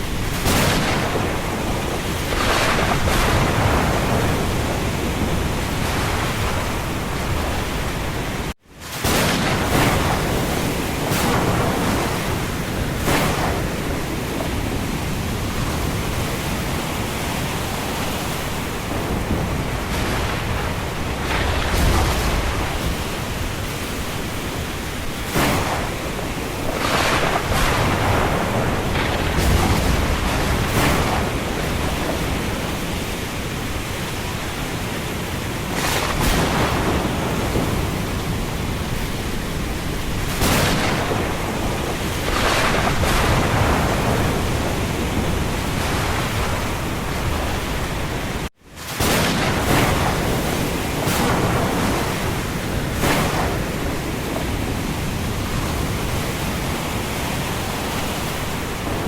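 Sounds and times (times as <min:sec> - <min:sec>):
rain: 0:00.0 - 0:59.0
rushing wind: 0:00.0 - 0:59.0.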